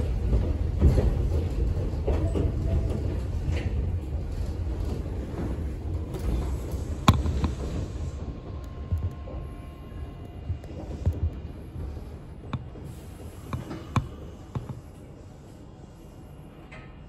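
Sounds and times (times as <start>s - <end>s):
electric train running rumble: 0.0s - 17.0s.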